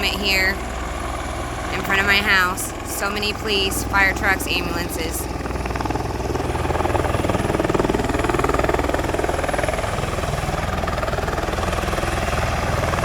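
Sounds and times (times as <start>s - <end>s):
helicopter rotor blades chopping: 0.0s - 13.0s
low engine drone: 0.0s - 13.0s.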